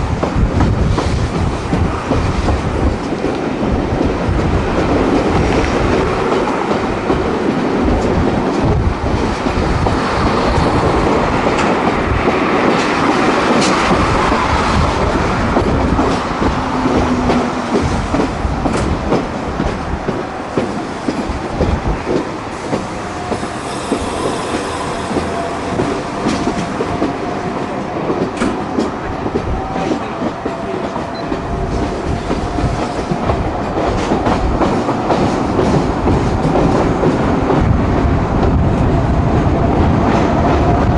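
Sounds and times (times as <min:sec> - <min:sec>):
railcar rumble: 0:00.0 - 0:40.9.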